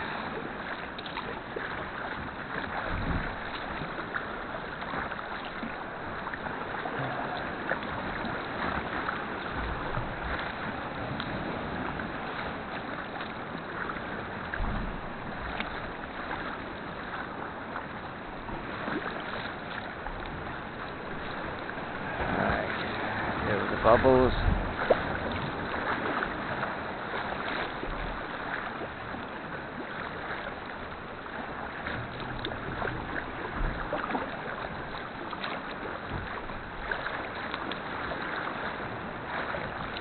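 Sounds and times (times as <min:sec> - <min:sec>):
paddle splashing water: 0:00.0 - 0:40.0
water lapping at hull: 0:00.0 - 0:40.0.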